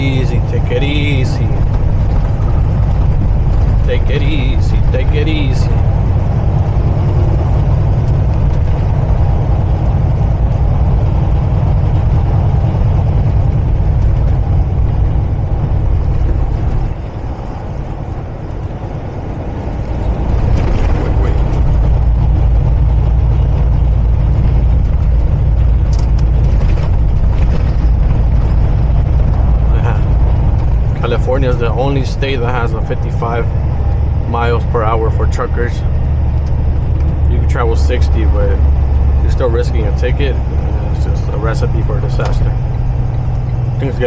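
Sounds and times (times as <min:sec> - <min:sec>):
truck engine and road rumble: 0:00.0 - 0:44.0.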